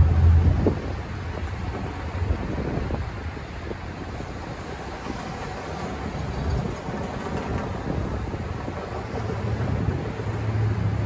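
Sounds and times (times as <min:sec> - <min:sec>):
train rumbling: 0:00.0 - 0:11.0
wind buffeting microphone: 0:00.0 - 0:11.0.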